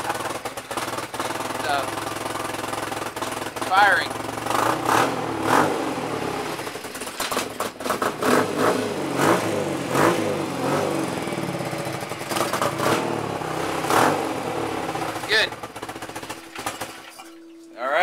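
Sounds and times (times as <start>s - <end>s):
motorcycle engine revving: 0.0s - 17.5s.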